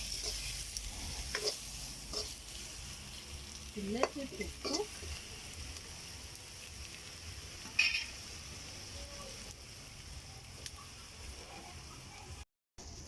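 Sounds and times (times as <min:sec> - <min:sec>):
tomatoes sizzling in a pot: 0:00.0 - 0:13.0.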